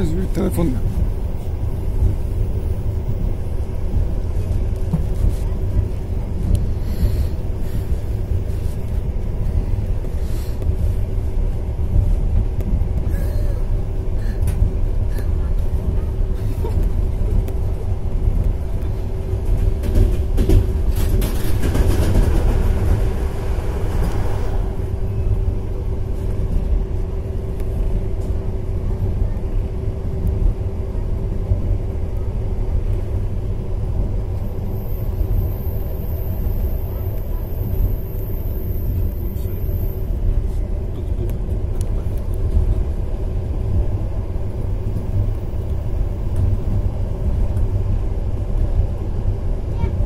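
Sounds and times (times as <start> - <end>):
passing train rush: 0.0 - 50.0
train carriage rumbling on rails: 0.0 - 50.0.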